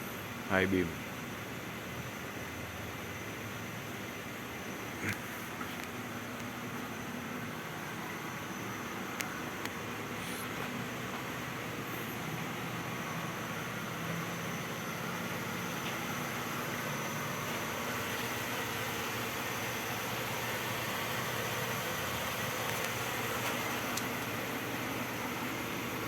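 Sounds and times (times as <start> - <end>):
car idling: 0.0 - 26.0.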